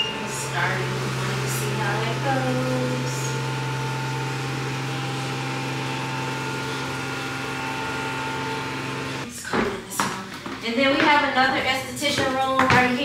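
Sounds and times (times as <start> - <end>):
low mechanical hum: 0.0 - 10.8.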